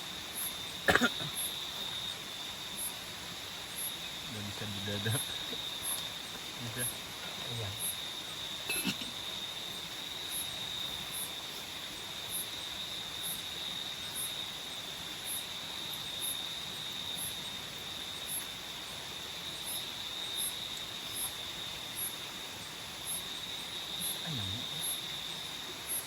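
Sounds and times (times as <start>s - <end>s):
insects trilling: 0.0s - 26.0s
very high insect chirps: 0.0s - 26.0s.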